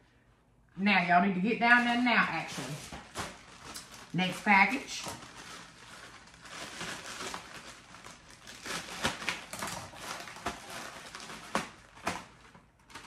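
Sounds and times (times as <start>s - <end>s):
plastic mailer rustling and crinkling: 1.6s - 13.0s
plastic tearing: 1.7s - 13.0s.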